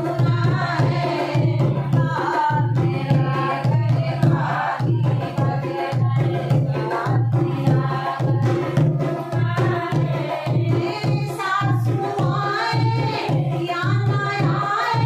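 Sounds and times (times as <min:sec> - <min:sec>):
dholak drum beat: 0:00.0 - 0:15.0
women singing folk song: 0:00.0 - 0:15.0.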